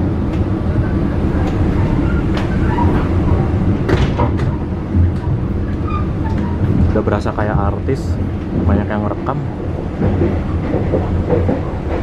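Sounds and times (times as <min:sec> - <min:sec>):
train coach rumbling on rails: 0:00.0 - 0:12.0.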